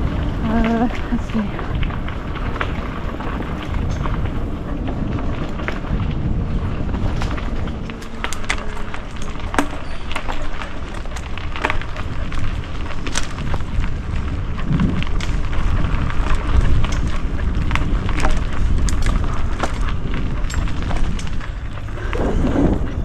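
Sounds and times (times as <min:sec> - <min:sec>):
bike clicking and rattling: 0:00.0 - 0:23.0
tyres rolling over gravel: 0:00.0 - 0:23.0
wind on microphone: 0:00.0 - 0:23.0.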